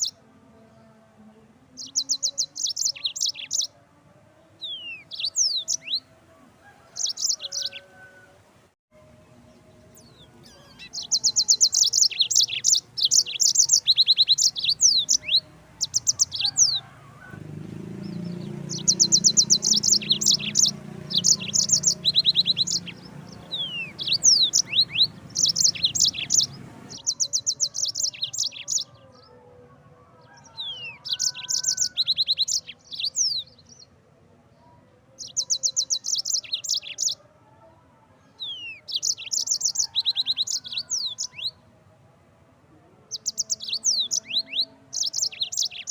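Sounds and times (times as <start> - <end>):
canary singing trills: 0.0 - 0.2, 1.7 - 3.8, 4.5 - 8.3, 9.5 - 29.3, 30.2 - 34.0, 35.1 - 37.3, 38.4 - 41.6, 43.0 - 45.9.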